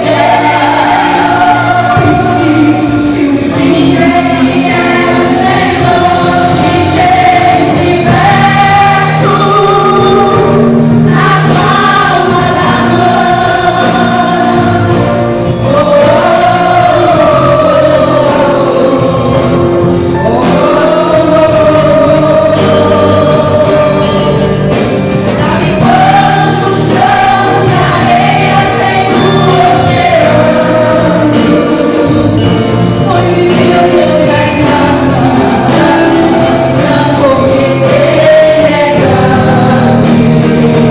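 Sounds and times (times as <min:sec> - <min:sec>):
choir singing gospel song: 0:00.0 - 0:40.9
instrumental accompaniment: 0:00.0 - 0:40.9.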